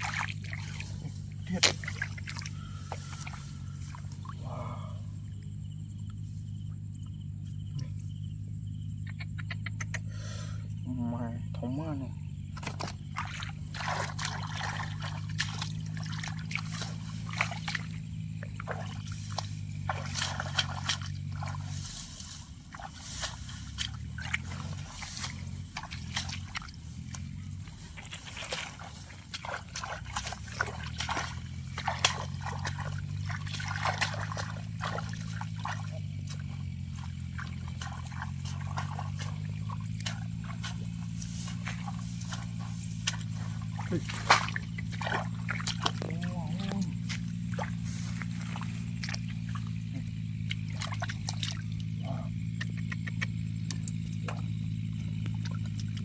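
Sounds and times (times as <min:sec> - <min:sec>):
low hum: 0:00.0 - 0:56.0
muddy water splashing: 0:00.0 - 0:56.0.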